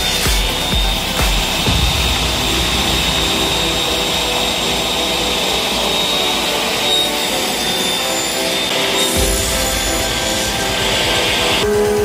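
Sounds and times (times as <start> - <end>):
table saw running: 0.0 - 12.0.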